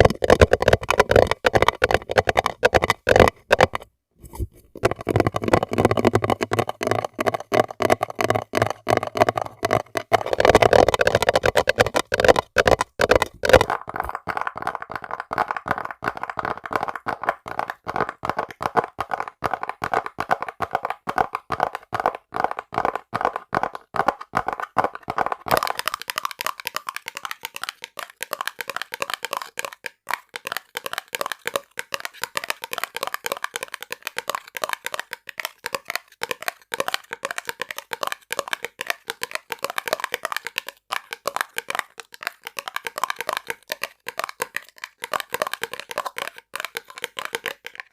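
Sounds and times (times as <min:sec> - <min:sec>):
rapid tapping on small objects: 0:00.0 - 0:03.9, 0:04.7 - 0:47.9.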